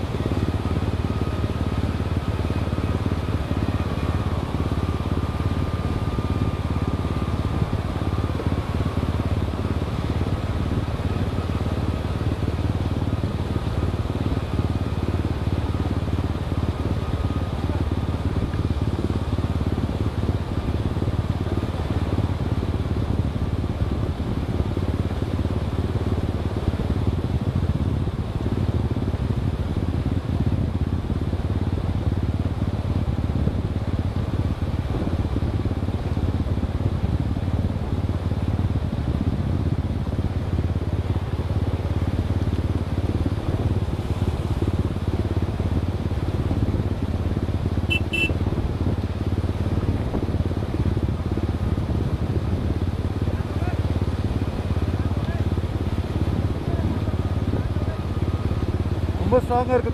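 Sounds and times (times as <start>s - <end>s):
vehicle driving rumble: 0.0s - 59.9s.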